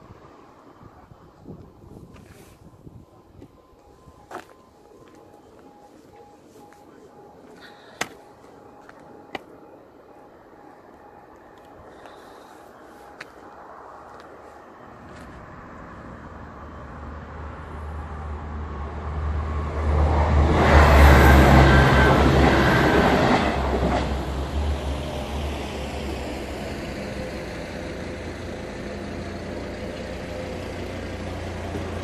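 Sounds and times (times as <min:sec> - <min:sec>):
passenger train passing: 0:00.0 - 0:32.0.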